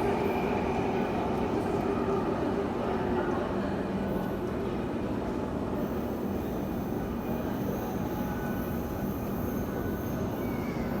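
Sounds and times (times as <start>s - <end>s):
subway train rumbling on track: 0.0s - 11.0s.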